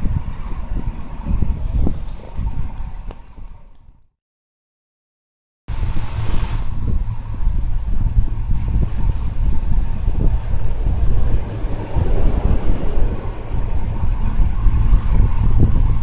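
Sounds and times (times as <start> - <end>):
wind buffeting microphone: 0.0 - 4.1, 5.7 - 16.0.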